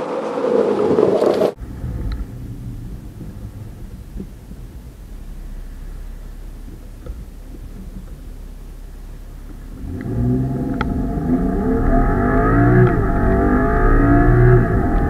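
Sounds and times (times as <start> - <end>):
car engine revving: 1.5 - 15.0.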